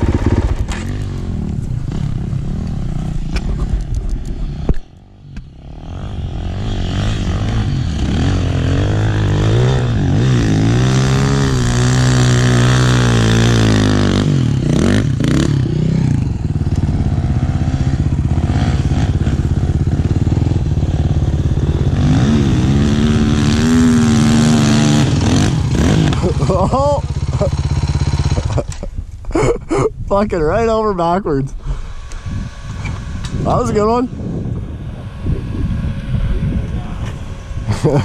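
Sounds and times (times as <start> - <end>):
dirt bike engine: 0.0 - 38.0.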